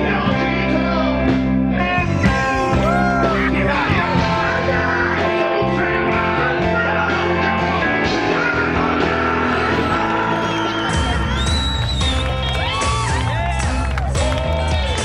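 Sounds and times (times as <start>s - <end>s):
rock song with male singer: 0.0s - 12.2s
different music: 0.1s - 15.0s.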